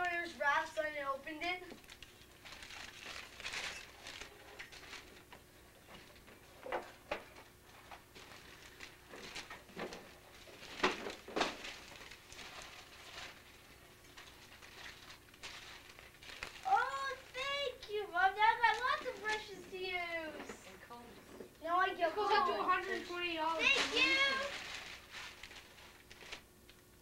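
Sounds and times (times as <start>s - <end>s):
wrapping paper crinkling: 1.7s - 6.2s, 7.6s - 20.3s, 22.1s - 27.0s.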